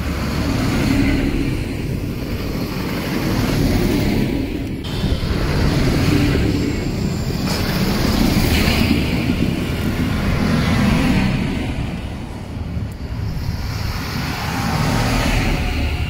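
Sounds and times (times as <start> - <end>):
tractor engines droning: 0.0 - 16.0.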